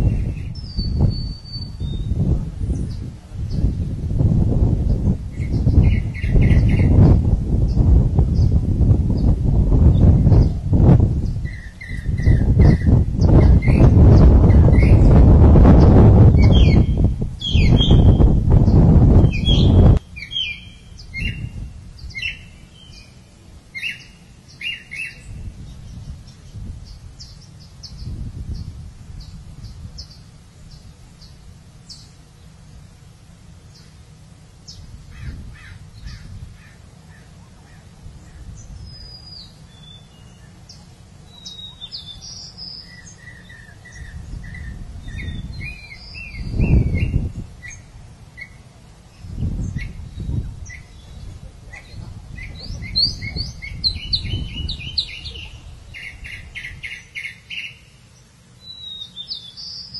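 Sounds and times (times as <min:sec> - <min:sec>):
steady low rumble: 0:00.0 - 0:20.2, 0:25.2 - 0:39.7, 0:40.5 - 0:57.0
birds chirping: 0:00.0 - 0:33.0, 0:33.6 - 0:59.9.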